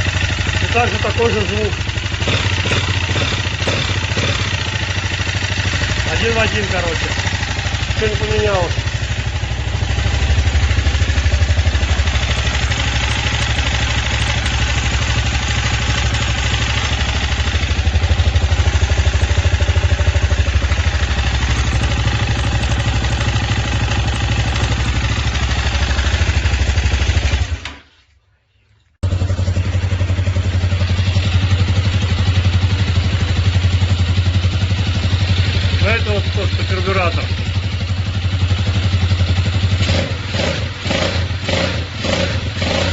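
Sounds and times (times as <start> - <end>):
motorcycle engine knocking: 0.0 - 27.6, 29.0 - 42.8.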